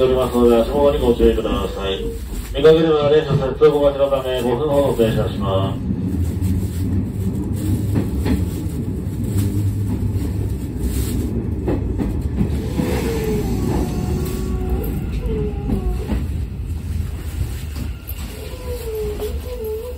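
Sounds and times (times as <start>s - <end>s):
train car low rumble: 0.0s - 19.9s.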